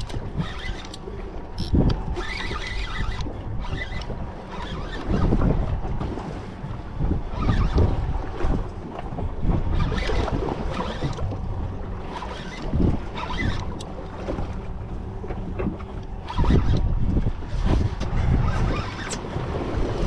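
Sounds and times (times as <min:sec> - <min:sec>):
water slapping against hull: 0:00.0 - 0:20.0
wind buffeting microphone: 0:00.0 - 0:20.0.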